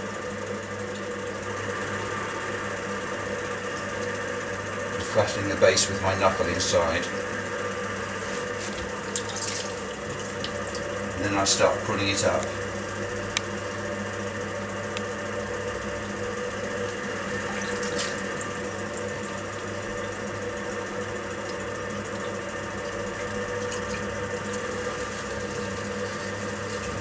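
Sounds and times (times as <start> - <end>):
potter's wheel humming: 0.0 - 27.0.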